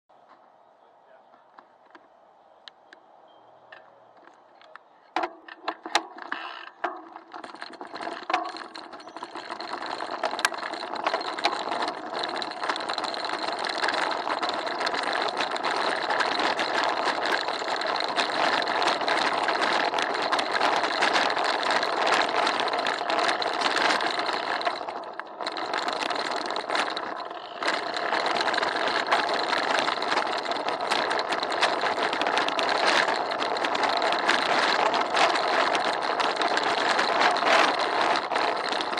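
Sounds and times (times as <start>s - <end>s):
bicycle rattling over cobblestones: 5.2s - 38.9s.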